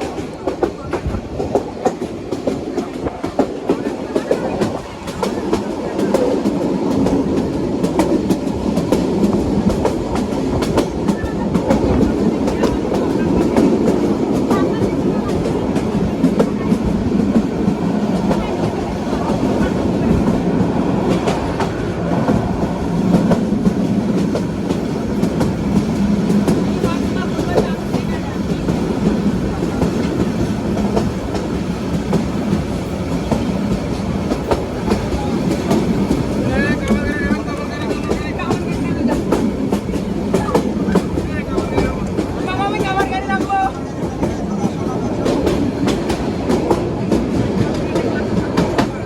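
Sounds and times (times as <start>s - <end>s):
train rumbling on track: 0.0s - 49.0s
wheels clicking on rails: 0.0s - 49.0s.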